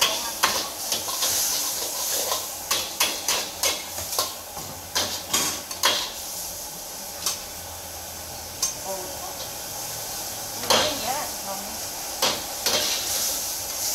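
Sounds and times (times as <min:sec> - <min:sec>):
hiss of frying: 0:00.0 - 0:13.9.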